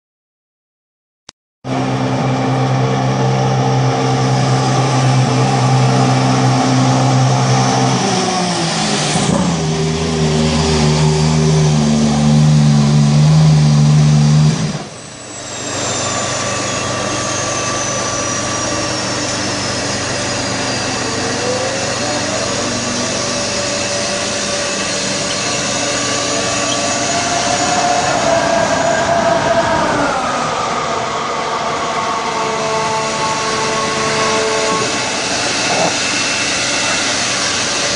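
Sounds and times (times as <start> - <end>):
racing car engine running: 1.6 - 37.9.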